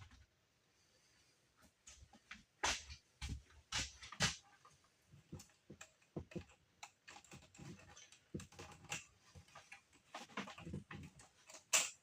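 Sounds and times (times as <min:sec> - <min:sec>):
light clicks and soft knocks: 0:01.6 - 0:12.0.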